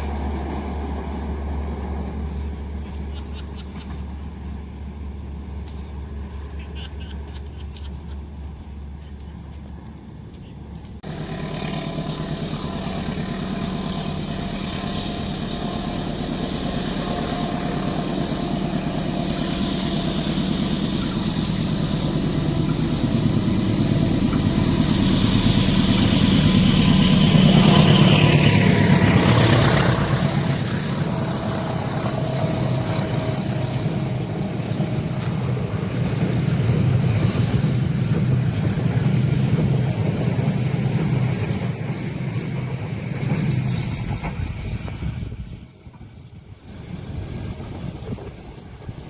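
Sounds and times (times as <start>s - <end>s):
train rumbling past: 0.0s - 49.0s.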